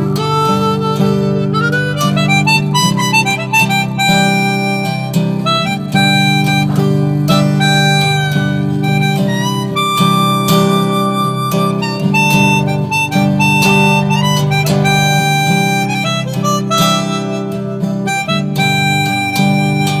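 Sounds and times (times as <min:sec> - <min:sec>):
harmonica melody: 0:00.0 - 0:20.0
strummed acoustic guitar: 0:00.0 - 0:20.0.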